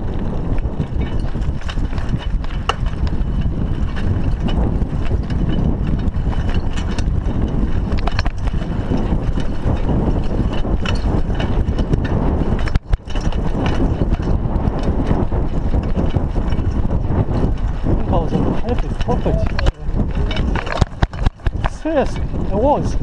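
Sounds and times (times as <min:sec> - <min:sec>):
bike clicks and rattles: 0:00.0 - 0:23.0
wind rumble: 0:00.0 - 0:23.0
tyres on dirt: 0:00.1 - 0:23.0.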